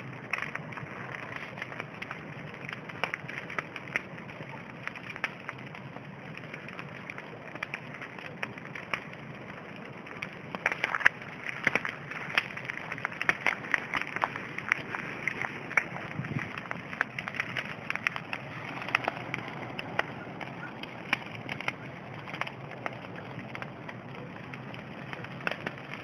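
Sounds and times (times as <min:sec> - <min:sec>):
bonfire hissing: 0:00.0 - 0:26.0
firewood crackling and popping: 0:00.0 - 0:26.0.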